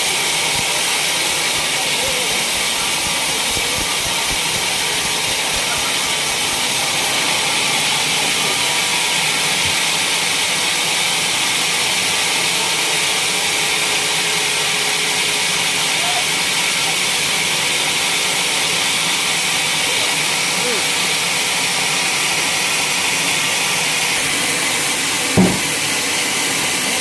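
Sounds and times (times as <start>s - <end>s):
sawmill high hiss: 0.0s - 27.0s.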